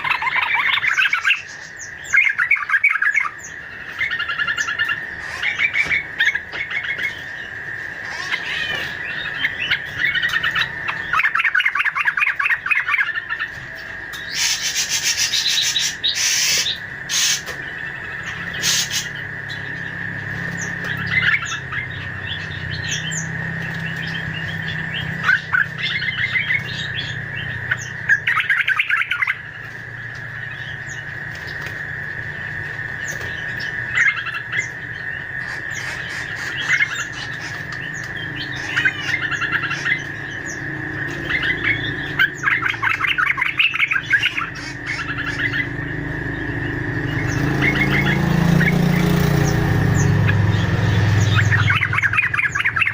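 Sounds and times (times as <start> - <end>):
harsh noisy bird calls: 0.0 - 52.9
high bird chirping: 0.0 - 52.9
high-pitched drone: 0.0 - 52.9.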